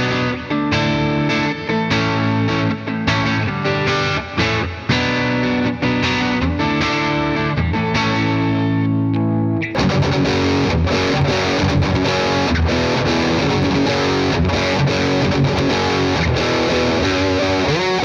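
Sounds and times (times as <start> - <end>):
overdriven electric guitar: 0.0 - 18.0.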